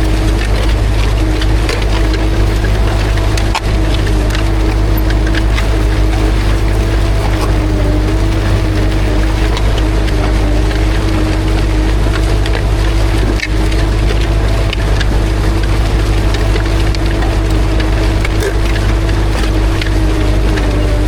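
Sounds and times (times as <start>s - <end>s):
harrow discs clicking and rattling: 0.0s - 21.0s
tractor diesel engine under load: 0.0s - 21.0s.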